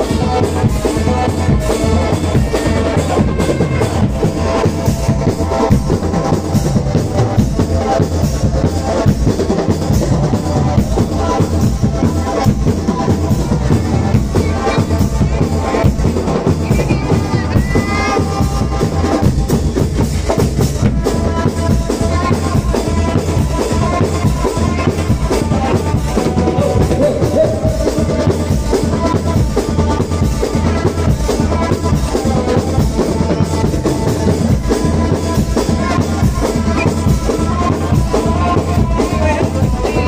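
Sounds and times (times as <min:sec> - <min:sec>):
bass drums beating: 0:00.0 - 0:40.0
snare drums beating: 0:00.0 - 0:40.0.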